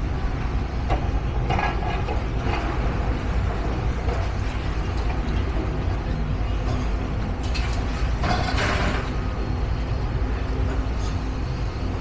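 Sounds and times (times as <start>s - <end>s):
heavy vehicle engine rumble: 0.0s - 12.0s.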